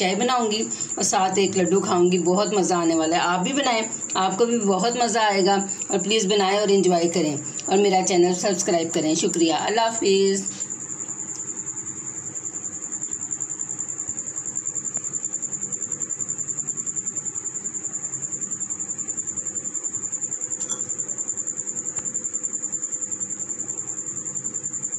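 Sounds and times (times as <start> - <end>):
insect trilling: 0.0 - 24.9
low background hum: 0.0 - 24.9.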